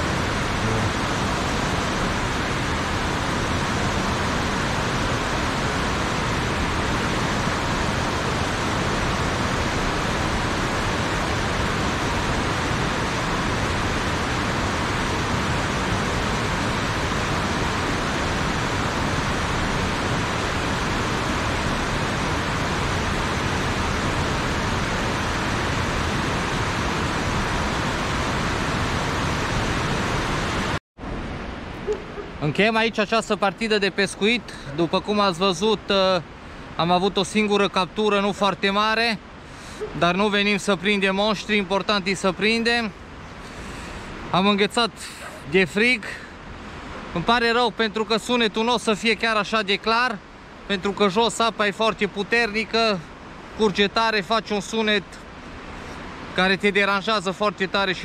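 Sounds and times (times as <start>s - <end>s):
water rushing down cascade: 0.0s - 58.0s.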